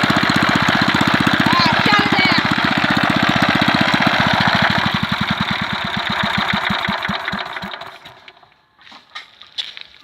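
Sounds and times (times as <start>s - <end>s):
petrol engine running down: 0.0s - 8.5s.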